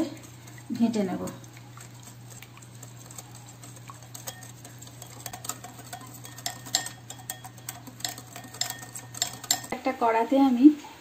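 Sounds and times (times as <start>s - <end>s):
whisk clicking against glass bowl: 0.0s - 9.8s.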